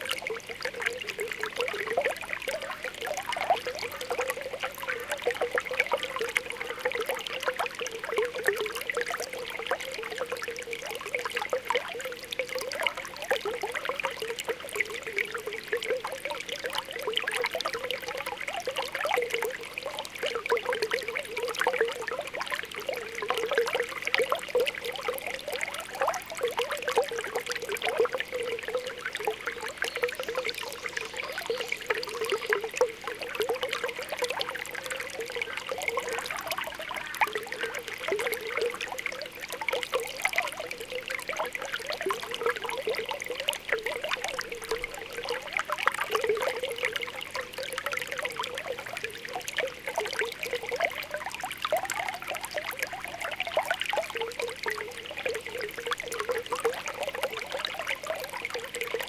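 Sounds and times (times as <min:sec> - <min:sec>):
spring water bubbling: 0:00.0 - 0:59.0.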